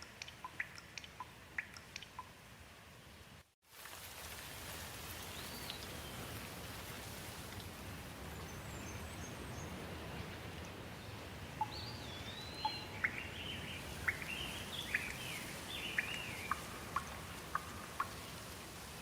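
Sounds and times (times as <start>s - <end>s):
steady rain: 0.1s - 19.0s.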